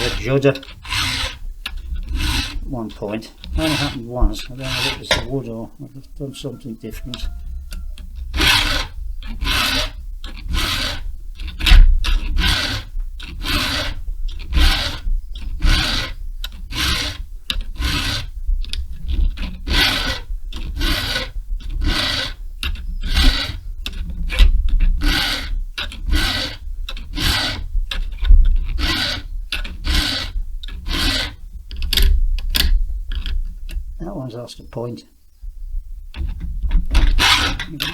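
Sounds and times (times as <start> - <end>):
file rasping on metal chain: 0.0 - 5.5, 6.9 - 32.1, 37.0 - 37.9.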